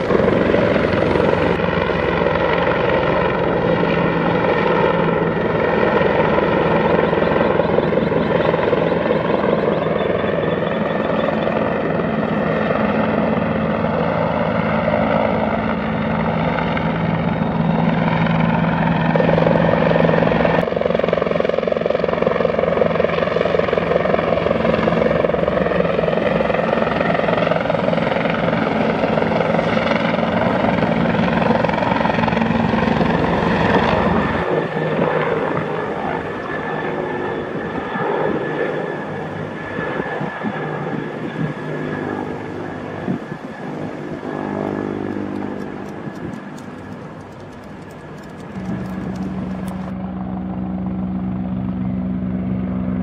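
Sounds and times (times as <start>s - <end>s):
helicopter flying past: 0.0s - 53.0s.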